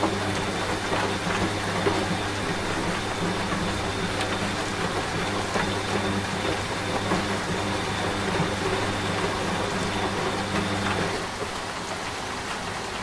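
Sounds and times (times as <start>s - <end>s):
steady rain: 0.0s - 13.0s
washing machine humming: 0.0s - 13.0s.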